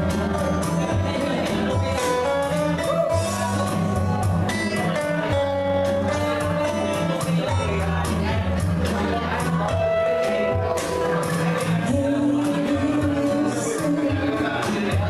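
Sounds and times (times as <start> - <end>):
bass line: 0.0 - 15.0
drums: 0.0 - 15.0
electric guitar: 0.0 - 15.0.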